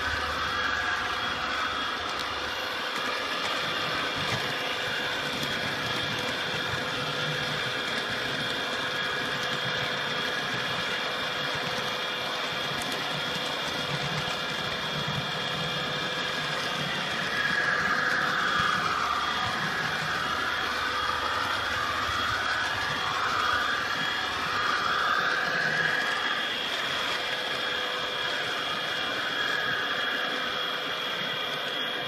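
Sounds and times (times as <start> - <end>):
model train whirring on track: 0.0 - 32.0.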